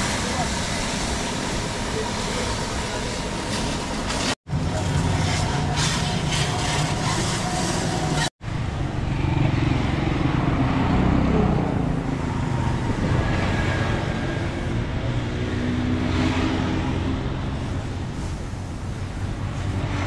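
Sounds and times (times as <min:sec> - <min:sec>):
road traffic noise: 0:00.0 - 0:20.0
vehicle engine: 0:00.0 - 0:20.0.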